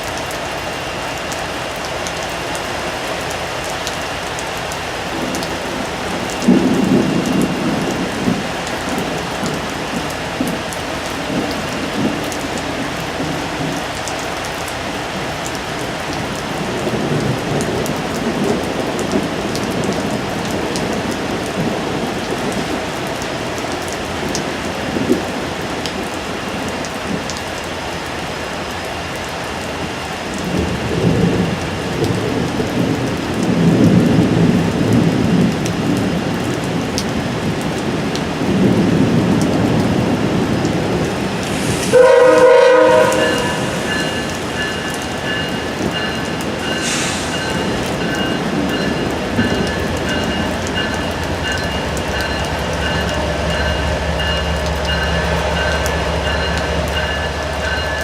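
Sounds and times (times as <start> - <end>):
steady rain: 0.0 - 58.0
thunder rumbling: 1.9 - 28.3, 29.7 - 58.0.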